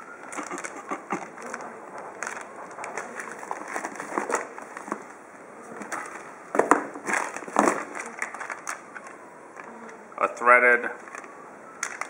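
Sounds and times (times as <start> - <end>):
plastic packaging crinkling: 0.0 - 9.8, 11.0 - 12.0
cardboard rustling: 0.1 - 9.8.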